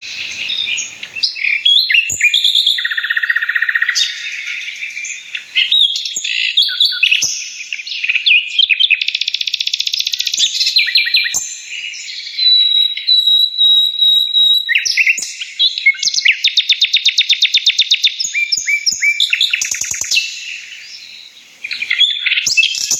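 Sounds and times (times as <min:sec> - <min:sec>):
flock of birds chirping: 0:00.0 - 0:22.9.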